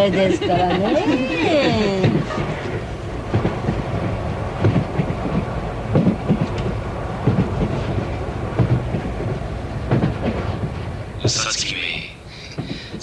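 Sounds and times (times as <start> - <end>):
train low rumble: 0.0 - 13.0
wheels clacking over rail joints: 0.0 - 13.0.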